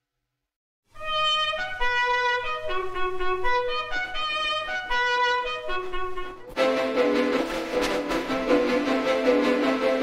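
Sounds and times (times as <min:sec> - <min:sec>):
music track: 0:00.9 - 0:10.0.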